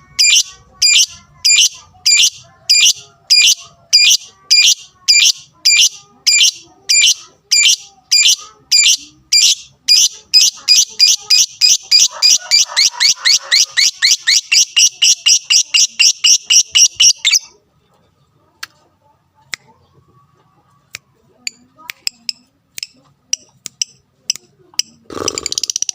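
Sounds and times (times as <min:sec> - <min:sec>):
lovebird chirping: 0:00.1 - 0:17.6, 0:21.4 - 0:25.9.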